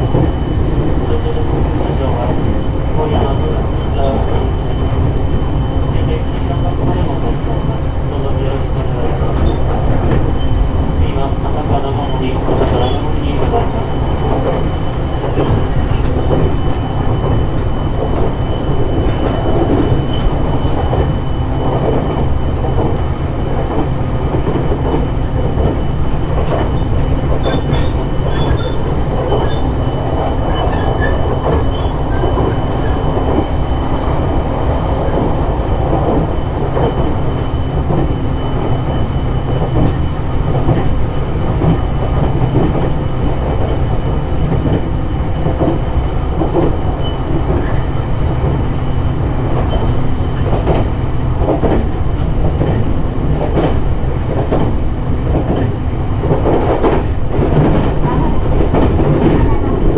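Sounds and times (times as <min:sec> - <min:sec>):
rail-joint clatter: 0:00.0 - 0:59.9
train wheels rolling on rails: 0:00.0 - 0:59.9.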